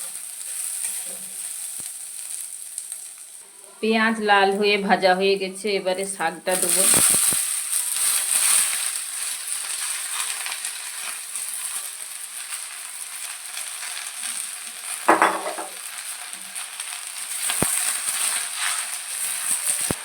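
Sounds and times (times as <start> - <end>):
spinach sizzling in hot oil: 0.0 - 5.0, 6.0 - 20.0.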